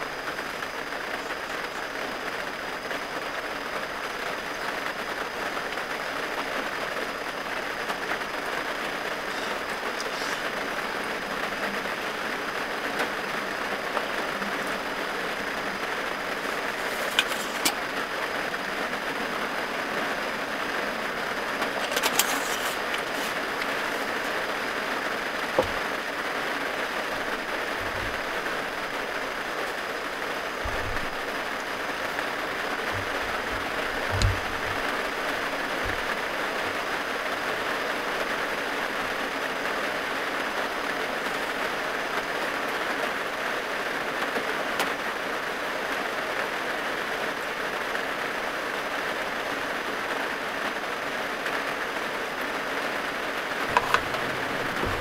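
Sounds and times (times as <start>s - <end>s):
heavy rain on van roof: 0.0s - 55.0s.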